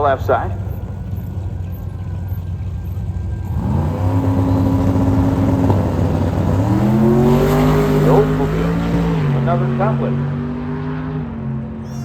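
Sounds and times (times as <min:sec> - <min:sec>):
drag race car engine revving: 0:00.0 - 0:11.8.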